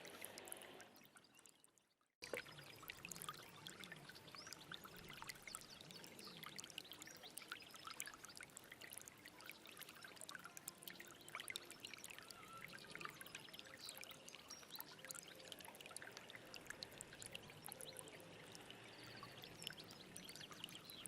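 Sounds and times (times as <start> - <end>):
stream water over stones: 0.0 - 21.0.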